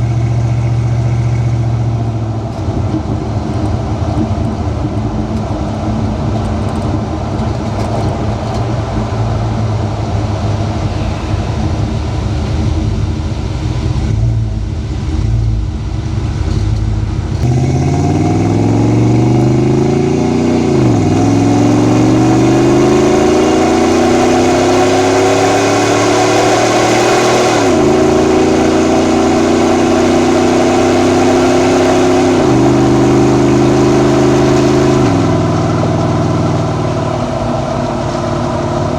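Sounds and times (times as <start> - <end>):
engine rumbling and accelerating: 0.0 - 38.9
road noise: 0.0 - 38.9.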